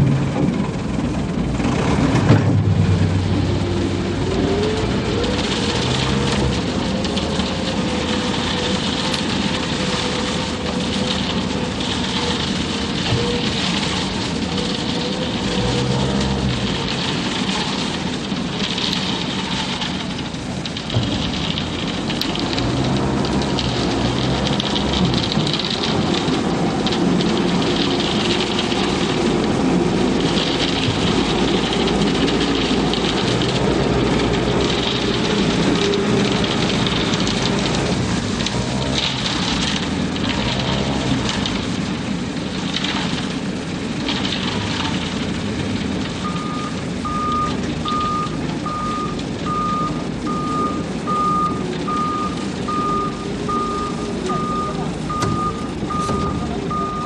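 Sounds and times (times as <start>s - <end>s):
concrete mixer truck running: 0.0s - 57.0s
constant whine: 0.0s - 57.0s.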